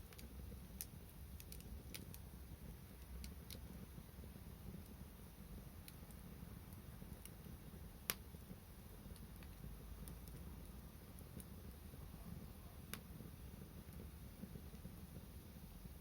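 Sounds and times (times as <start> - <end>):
fire crackling and popping: 0.0 - 16.0
wood fire rumbling: 0.0 - 16.0.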